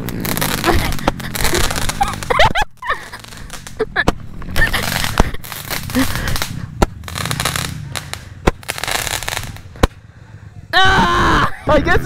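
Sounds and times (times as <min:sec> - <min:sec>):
firework rockets hissing: 0:00.0 - 0:10.0.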